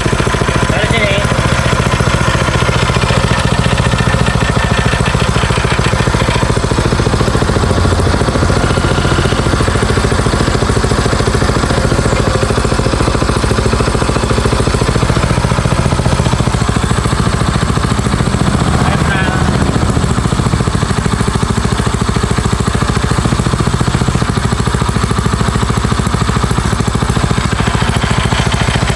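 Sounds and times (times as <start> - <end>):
drilling rig engine running: 0.0 - 28.9.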